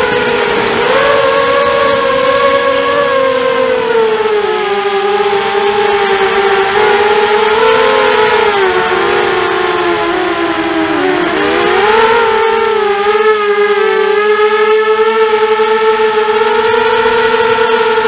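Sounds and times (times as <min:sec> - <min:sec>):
quadcopter motors buzzing whine: 0:00.0 - 0:18.0.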